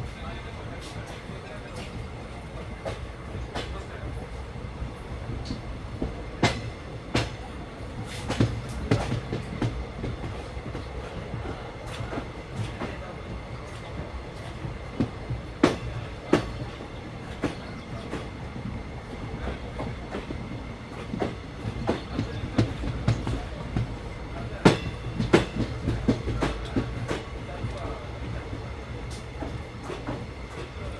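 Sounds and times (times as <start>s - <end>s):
train rumbling on track: 0.0s - 30.9s.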